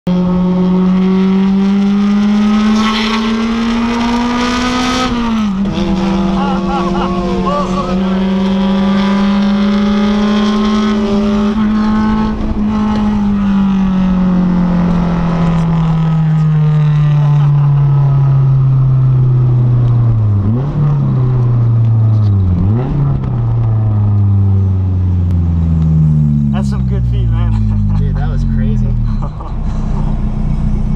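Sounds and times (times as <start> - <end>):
sports car exhaust: 0.1 - 30.9.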